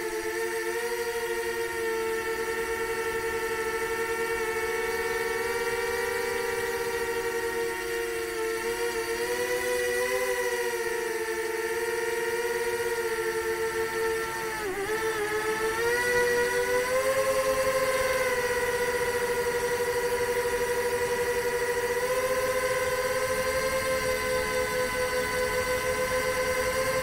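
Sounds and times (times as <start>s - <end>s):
quadcopter propellers whining: 0.0s - 27.0s.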